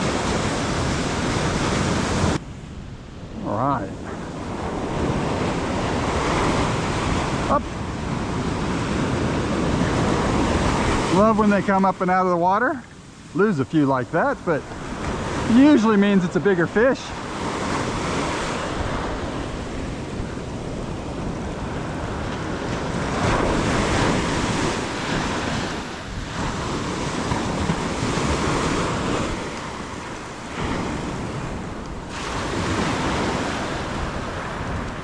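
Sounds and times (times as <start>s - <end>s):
wind buffeting microphone: 0.0s - 11.9s, 12.7s - 35.0s
ocean surf breaking on a beach: 0.0s - 35.0s.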